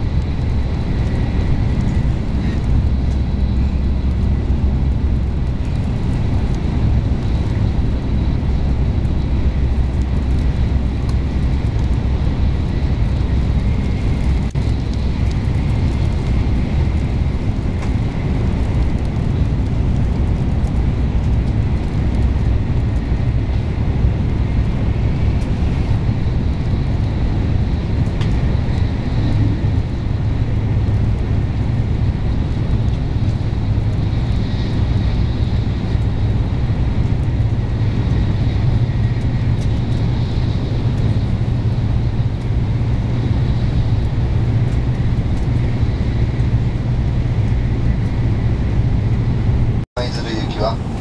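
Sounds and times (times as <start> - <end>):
train rumbling at speed: 0.0 - 51.0.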